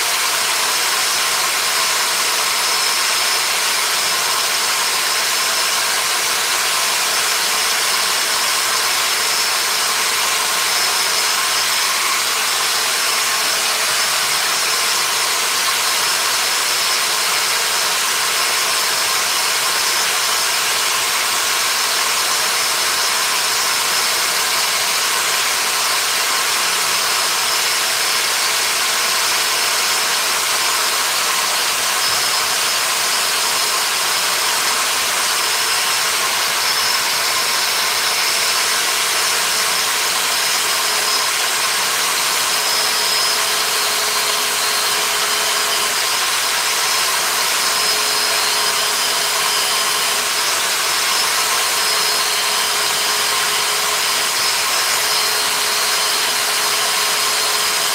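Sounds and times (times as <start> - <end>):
power tool running: 0.0 - 57.9.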